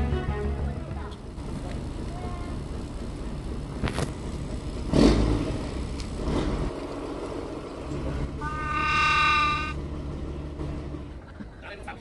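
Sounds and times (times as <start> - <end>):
boat engine running: 0.0 - 11.4.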